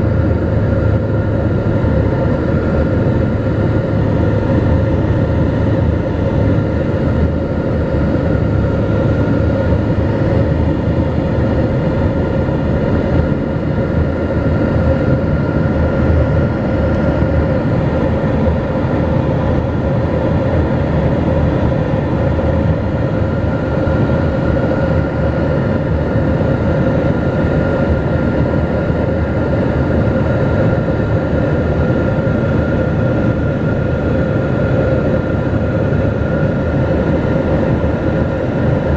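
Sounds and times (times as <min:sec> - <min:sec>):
turboprop engine drone: 0:00.0 - 0:38.9.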